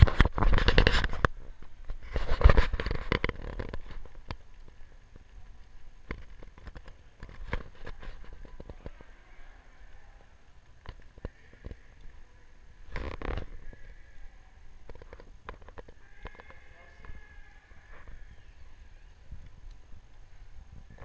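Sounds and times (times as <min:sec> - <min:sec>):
rustling against microphone: 0:00.0 - 0:21.0.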